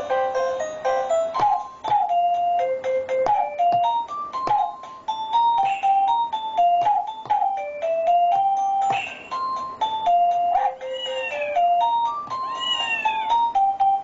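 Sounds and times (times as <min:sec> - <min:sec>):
electronic beeping melody: 0:00.0 - 0:14.0
electronic drum sounds: 0:00.0 - 0:14.0.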